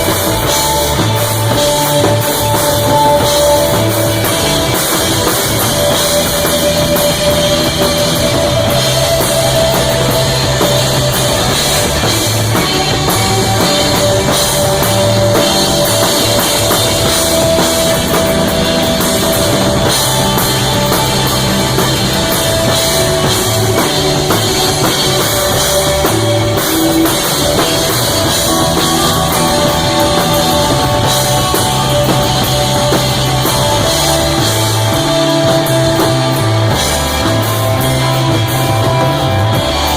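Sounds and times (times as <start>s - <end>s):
bass line: 0.0s - 39.9s
drum kit with cymbals: 0.0s - 39.9s
electric guitar long notes: 0.0s - 39.9s.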